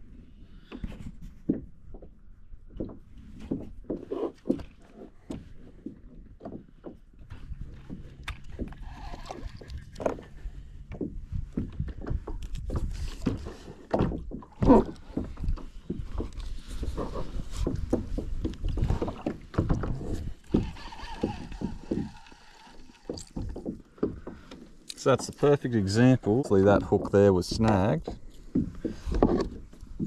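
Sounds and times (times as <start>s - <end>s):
knocks and rubbing on kayak: 0.6s - 30.0s.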